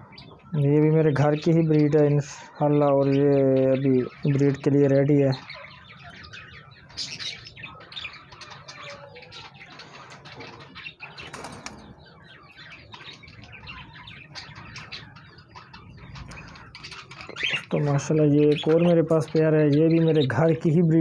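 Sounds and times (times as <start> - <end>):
cage birds chirping: 0.0 - 21.0.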